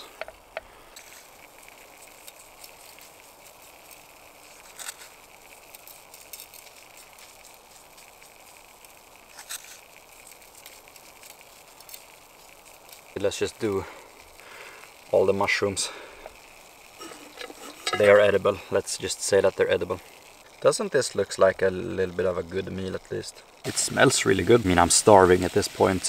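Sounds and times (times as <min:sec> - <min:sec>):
fish sizzling in a pan: 0:00.0 - 0:26.0.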